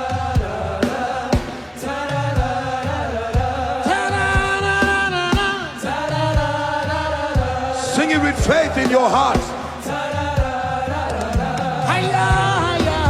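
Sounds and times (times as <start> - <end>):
band with steady drum beat: 0.0 - 13.0
voices singing gospel: 0.0 - 13.0.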